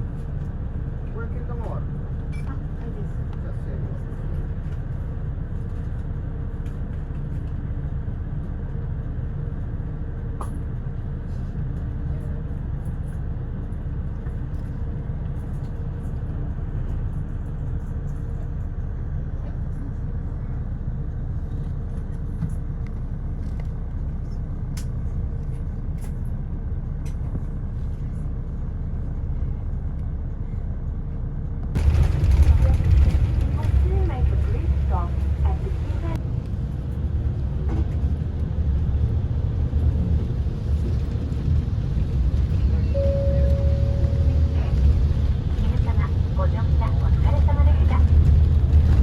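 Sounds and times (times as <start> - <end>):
bus engine and road noise: 0.0 - 49.0.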